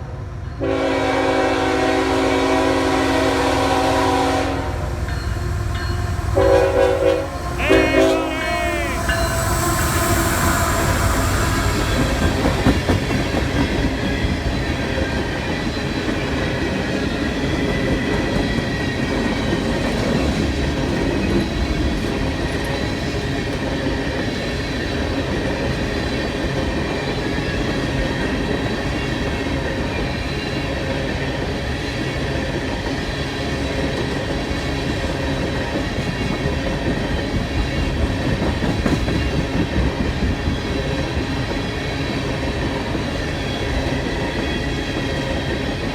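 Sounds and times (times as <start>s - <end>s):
train wheels clacking over rail joints: 5.0s - 45.9s.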